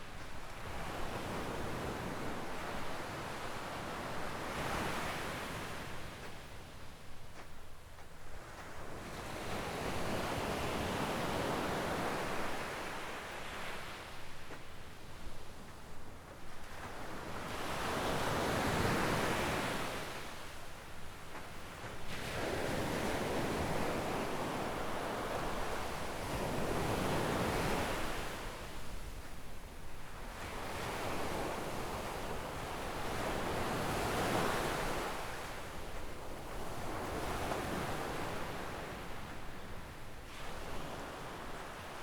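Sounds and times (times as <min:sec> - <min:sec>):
waves washing onto beach: 0:00.0 - 0:42.0.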